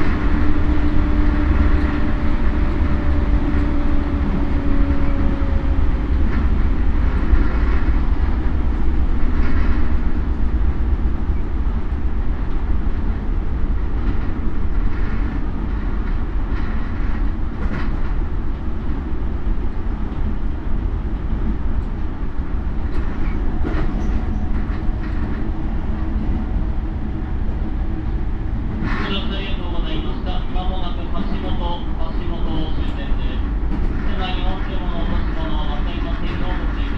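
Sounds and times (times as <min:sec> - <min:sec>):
rail joint clicks: 0:00.0 - 0:36.9
train wheels rumbling on rail: 0:00.0 - 0:36.9.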